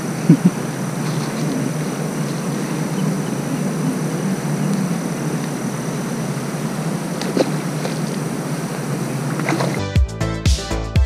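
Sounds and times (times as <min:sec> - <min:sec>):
low rumbling hiss: 0:00.0 - 0:09.8.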